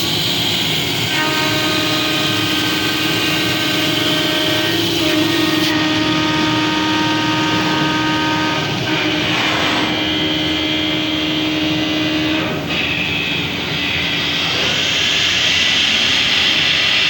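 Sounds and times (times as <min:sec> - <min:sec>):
lathe cutting noise: 0:00.0 - 0:17.0
wood lathe motors whining: 0:00.0 - 0:17.0.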